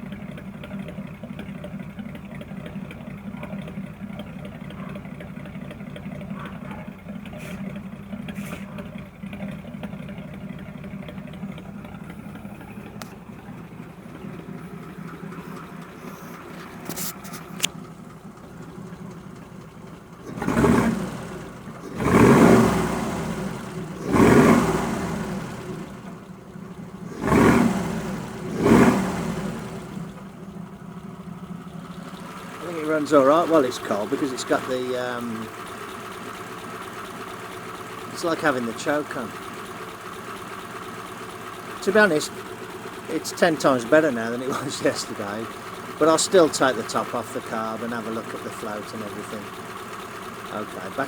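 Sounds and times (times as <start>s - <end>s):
truck engine idling and revving: 0.0s - 51.0s.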